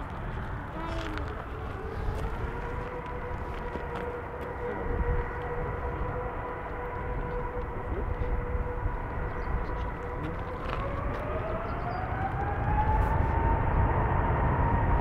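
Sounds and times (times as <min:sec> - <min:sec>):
jet engine whine rising: 0:00.0 - 0:15.0
low engine rumble: 0:00.0 - 0:15.0.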